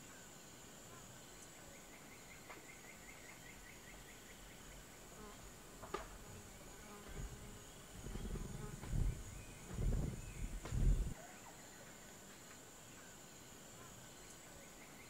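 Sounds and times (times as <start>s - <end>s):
high insect drone: 0.0s - 15.0s
quick insect chirps: 0.1s - 15.0s.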